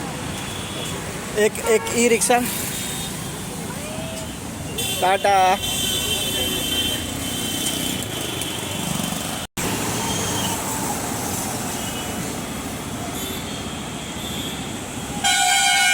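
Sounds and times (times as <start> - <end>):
road traffic noise: 0.0 - 15.9.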